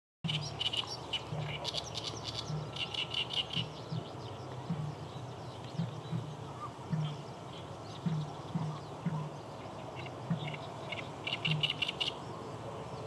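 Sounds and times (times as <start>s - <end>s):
low repeated pulsing: 0.2s - 13.0s
reed warbler singing: 0.2s - 13.0s.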